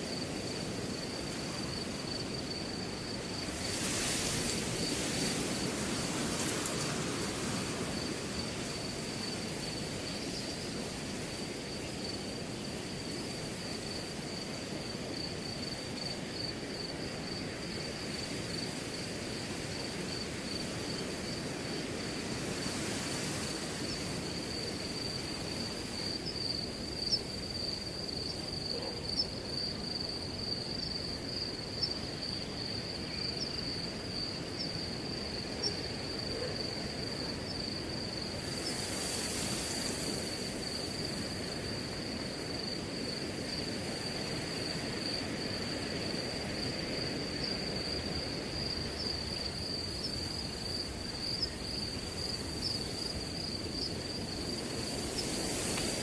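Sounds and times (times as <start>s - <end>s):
cricket trill: 0.0s - 56.0s
wind rustling through grass: 0.0s - 56.0s.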